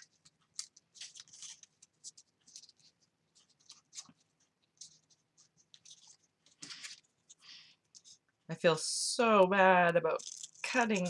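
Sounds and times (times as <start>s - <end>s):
paper rustling and scraping: 0.0s - 8.2s, 10.1s - 11.0s.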